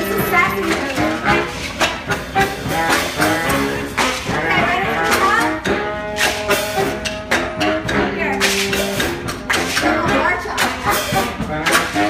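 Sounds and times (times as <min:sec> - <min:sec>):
saxophones and horns: 0:00.0 - 0:12.0
steady drum beat: 0:00.0 - 0:12.0.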